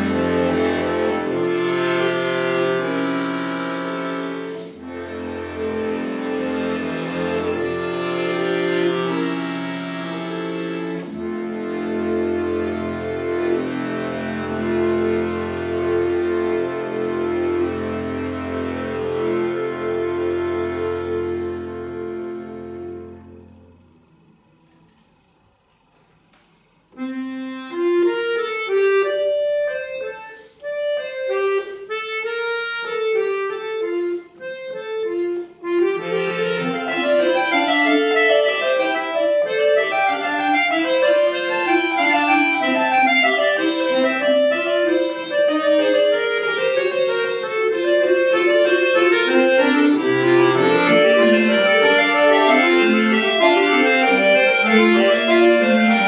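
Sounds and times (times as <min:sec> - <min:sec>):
button accordion playing: 0:00.0 - 0:24.8, 0:26.9 - 0:56.0.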